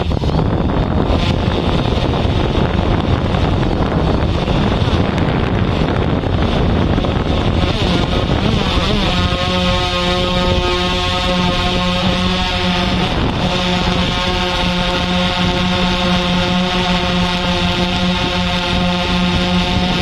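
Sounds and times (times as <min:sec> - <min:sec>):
steady pitched hum: 0:00.0 - 0:20.0
wind buffeting microphone: 0:00.0 - 0:20.0.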